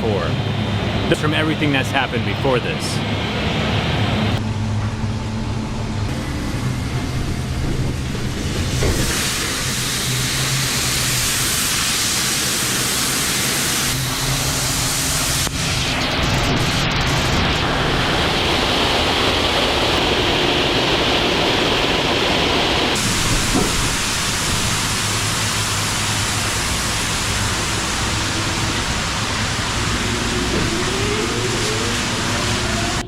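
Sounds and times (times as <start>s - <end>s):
faint rising whine: 0.0s - 9.6s, 14.0s - 33.0s
industrial machinery noise: 0.0s - 33.0s.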